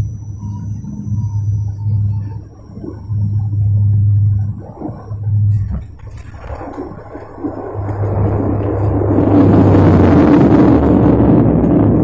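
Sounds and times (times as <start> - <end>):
propeller drone in aircraft cabin: 0.0 - 12.0.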